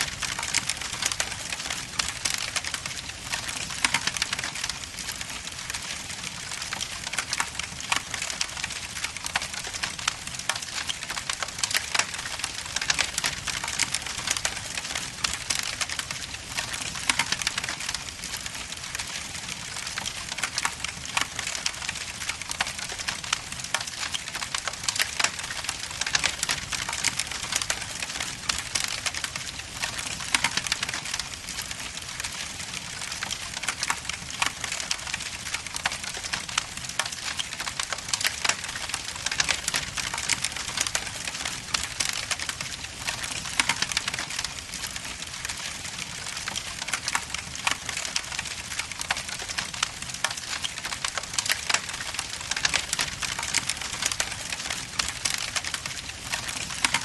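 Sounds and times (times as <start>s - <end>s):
logs burning with crackles: 0.0s - 57.0s.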